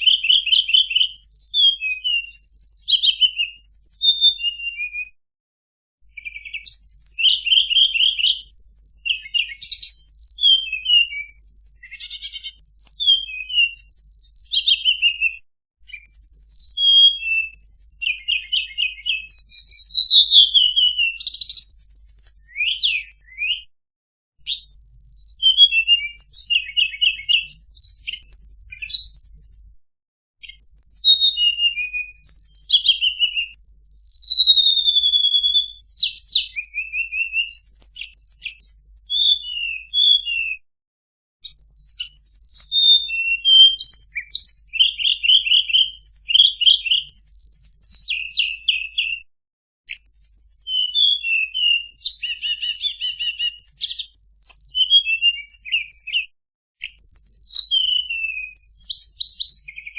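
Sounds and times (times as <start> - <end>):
bird singing whistles and trills: 0.0 - 5.2, 6.0 - 23.7, 24.4 - 29.8, 30.4 - 40.6, 41.4 - 49.3, 49.9 - 59.9.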